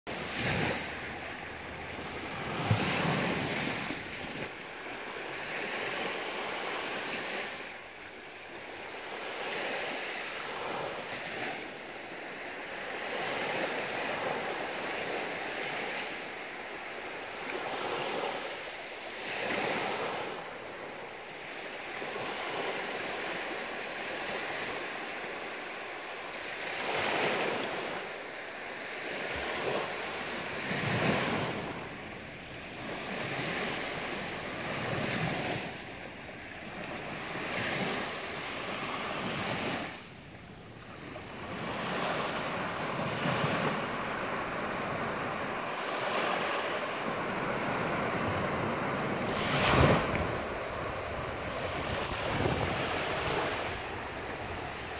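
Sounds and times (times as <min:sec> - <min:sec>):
small waves breaking on beach: 0:00.1 - 0:54.9.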